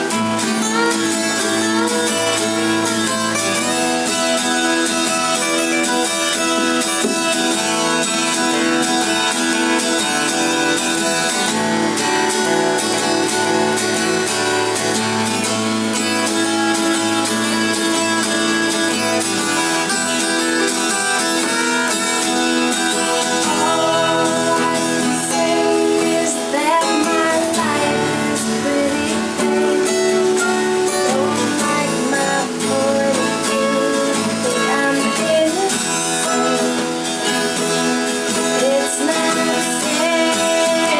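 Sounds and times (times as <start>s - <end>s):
acoustic guitar music: 0.0s - 40.9s
person singing: 0.0s - 40.9s.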